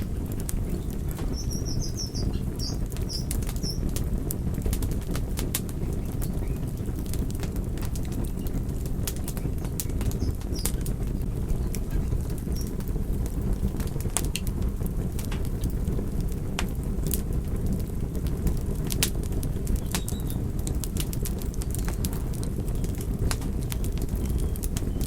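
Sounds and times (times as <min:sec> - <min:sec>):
low rumble of burning: 0:00.0 - 0:25.0
wood fire crackling and popping: 0:00.0 - 0:25.0.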